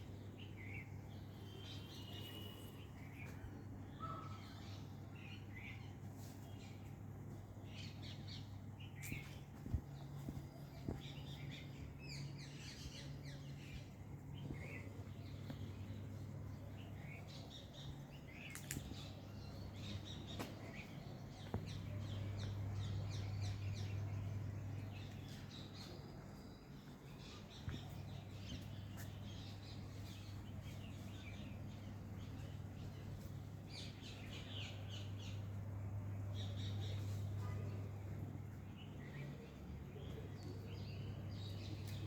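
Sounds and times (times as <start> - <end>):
small birds chirping: 0.0 - 42.0
steady low hum: 2.3 - 42.0.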